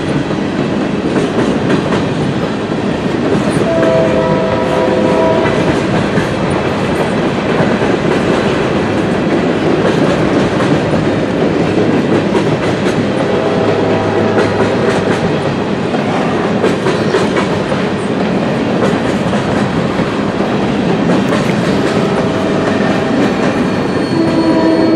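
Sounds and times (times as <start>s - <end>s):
clickety-clack over rail joints: 0.0s - 24.9s
steel wheels rumbling on rails: 0.0s - 24.9s.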